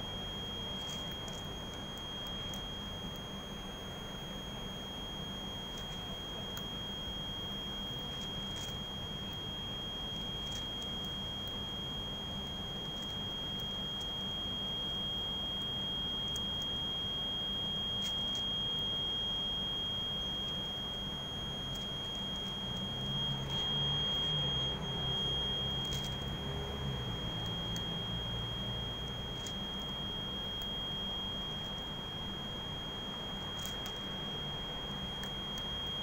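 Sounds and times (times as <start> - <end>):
low hum: 0.0 - 36.0
steady high-pitched tone: 0.0 - 36.0.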